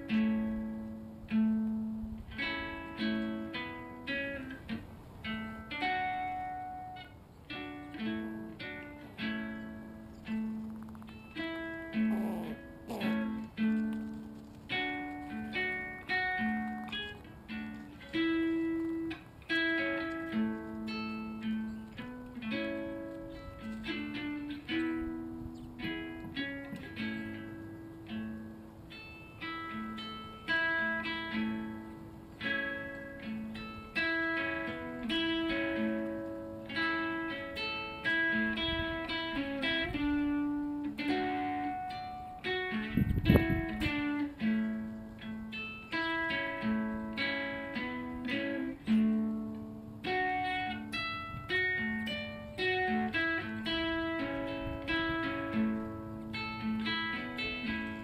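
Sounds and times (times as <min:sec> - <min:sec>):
electric ukulele melody: 0:00.0 - 0:58.0.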